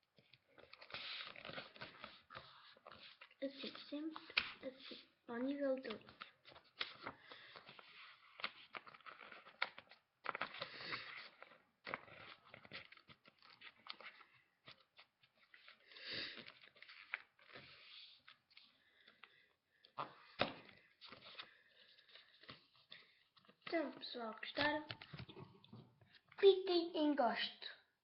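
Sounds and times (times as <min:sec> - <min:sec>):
paper rustling and crinkling: 0:00.0 - 0:19.4, 0:20.0 - 0:26.4.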